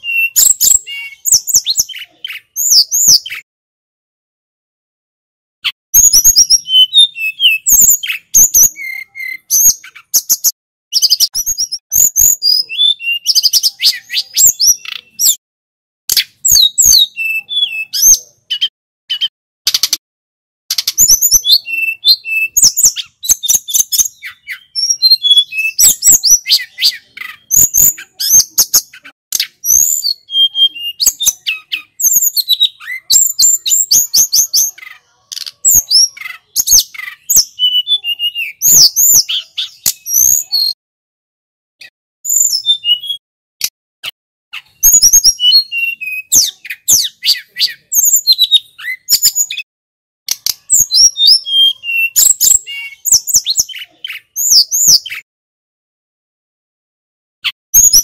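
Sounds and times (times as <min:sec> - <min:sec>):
bird singing whistles and trills: 0:00.0 - 0:03.5, 0:06.0 - 0:15.4, 0:16.1 - 0:20.0, 0:20.7 - 0:40.8, 0:41.8 - 0:43.2, 0:44.6 - 0:49.7, 0:50.3 - 0:55.3, 0:57.8 - 0:58.0.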